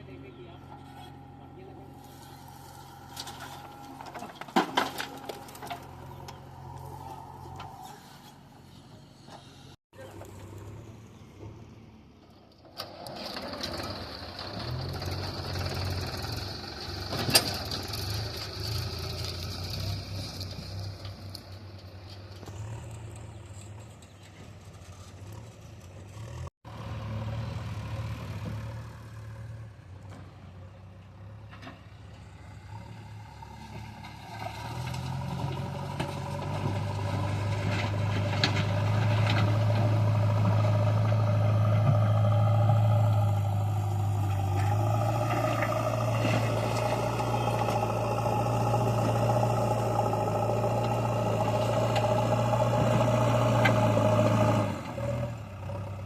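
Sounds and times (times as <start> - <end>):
diesel engine running: 0.0 - 12.1, 12.8 - 56.0.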